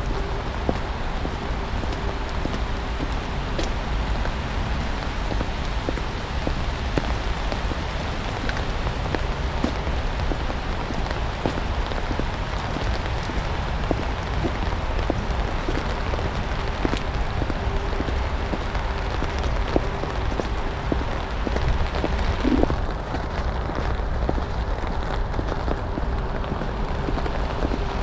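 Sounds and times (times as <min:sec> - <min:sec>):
rain and snow hissing: 0:00.0 - 0:28.0.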